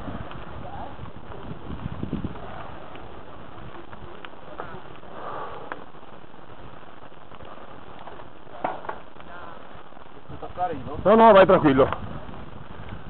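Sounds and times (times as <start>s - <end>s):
bike tyres on gravel: 0.0s - 13.0s.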